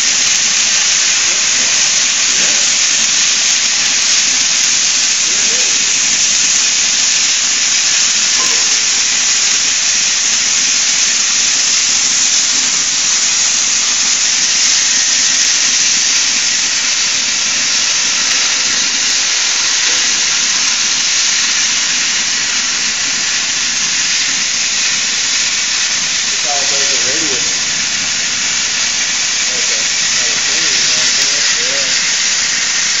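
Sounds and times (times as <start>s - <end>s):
cutting torch hissing: 0.0s - 33.0s.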